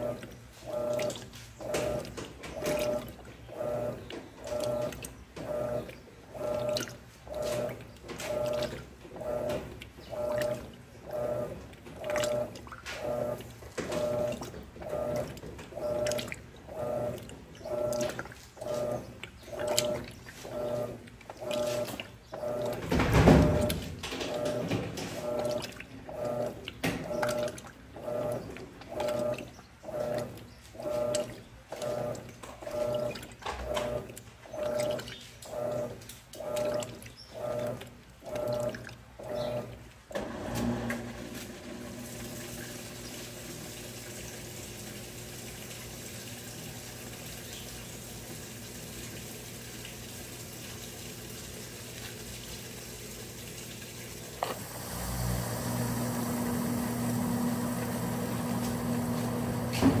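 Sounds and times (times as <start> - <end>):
running water: 0.0 - 60.0
washing machine agitating: 0.0 - 60.0.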